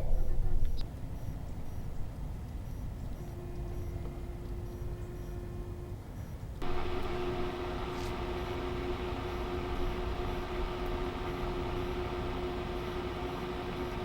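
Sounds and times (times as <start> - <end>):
mechanical hum and whir: 0.0 - 14.0.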